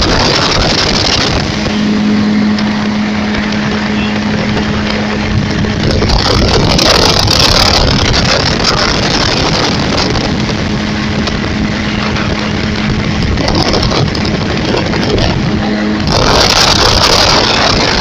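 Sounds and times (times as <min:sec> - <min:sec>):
low engine hum: 0:00.0 - 0:18.0
moving vehicle rushing noise: 0:00.0 - 0:18.0.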